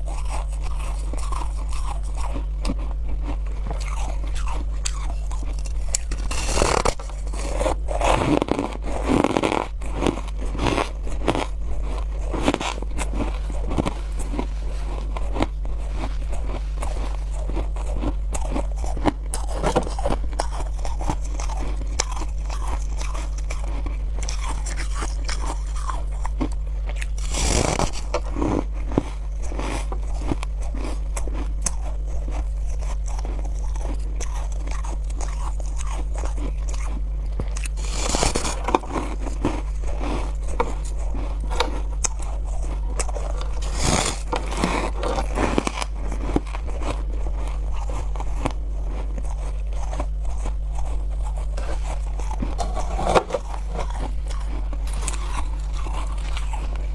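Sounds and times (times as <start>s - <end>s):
low steady hum: 0.0s - 56.9s
person chewing ice crunching: 0.0s - 56.9s.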